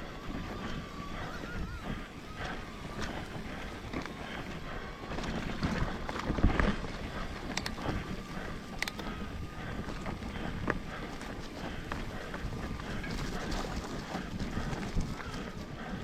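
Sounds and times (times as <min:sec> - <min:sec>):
bike tyres on dirt: 0:00.0 - 0:16.0.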